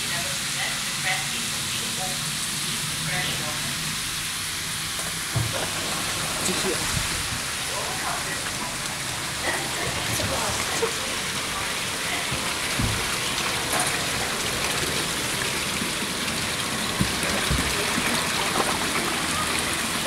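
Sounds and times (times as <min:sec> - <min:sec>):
water jets splashing: 0:00.0 - 0:20.0.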